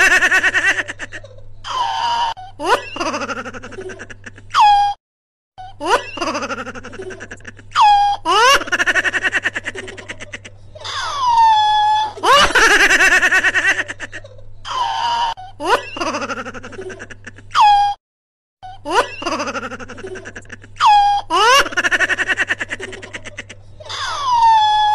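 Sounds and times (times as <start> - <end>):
loud high-pitched laughter: 0.0 - 5.0, 5.7 - 18.0, 18.6 - 24.9.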